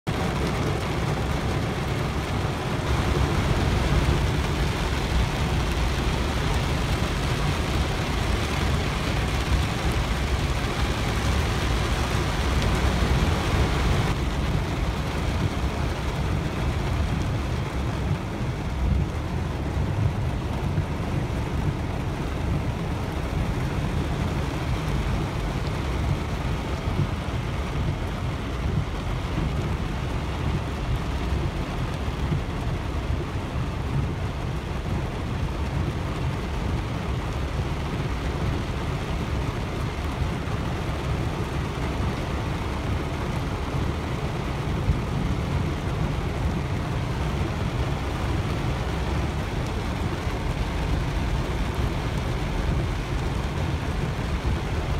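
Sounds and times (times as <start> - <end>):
car rumbling on wet road: 0.0 - 54.9
heavy rain on car roof: 0.0 - 54.9.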